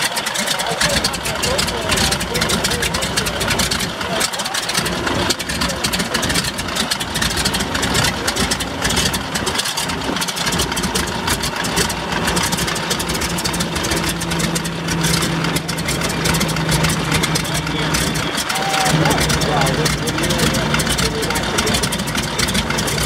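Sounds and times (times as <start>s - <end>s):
radial aircraft engine running: 0.0s - 23.0s.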